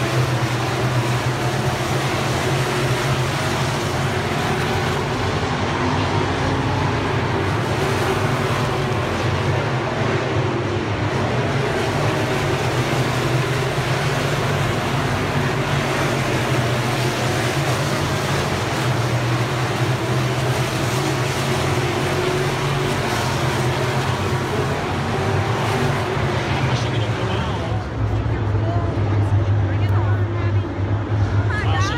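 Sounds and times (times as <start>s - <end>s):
race car engines droning: 0.0s - 31.9s.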